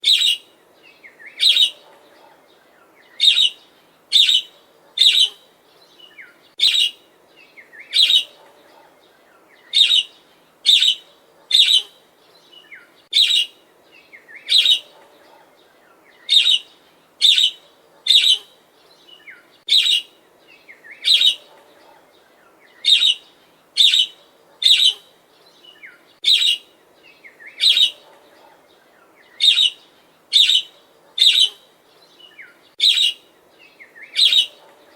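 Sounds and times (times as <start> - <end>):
soft bird chatter: 0.0 - 34.9.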